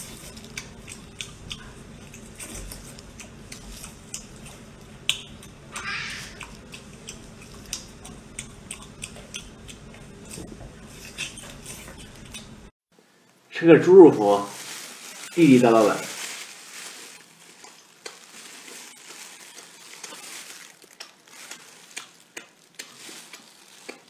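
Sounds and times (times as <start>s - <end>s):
wet eating sounds: 0.0s - 12.7s, 14.2s - 24.0s.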